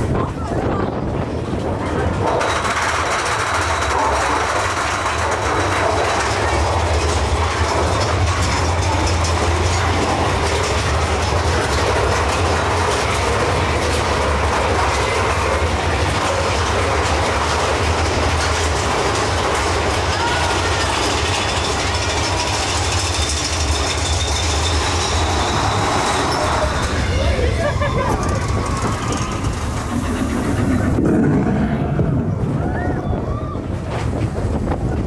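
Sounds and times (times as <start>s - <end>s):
roller coaster rumble: 0.0s - 35.0s
wheels clattering on track: 0.0s - 35.0s.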